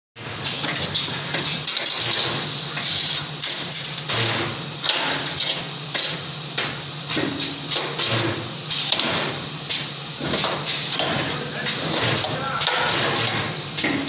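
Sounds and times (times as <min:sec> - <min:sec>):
machine motor hum: 0:00.2 - 0:14.0
sharp pneumatic cylinder clacks: 0:00.4 - 0:06.2, 0:07.1 - 0:14.0.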